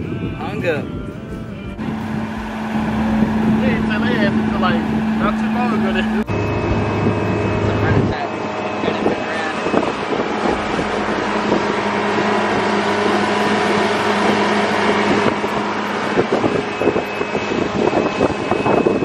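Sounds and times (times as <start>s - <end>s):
boat motor running: 0.0s - 19.0s
rushing wind: 0.0s - 19.0s
water noise: 1.8s - 19.0s.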